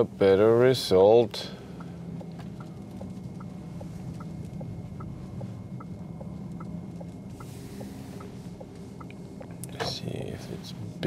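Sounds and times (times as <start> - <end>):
turn signal ticking: 0.0 - 10.4
road and tyre noise: 0.0 - 11.0.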